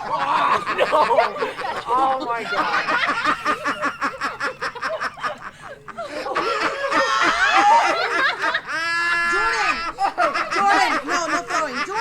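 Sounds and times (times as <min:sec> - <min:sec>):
people squealing: 0:00.0 - 0:12.0
young people laughing: 0:00.0 - 0:12.0.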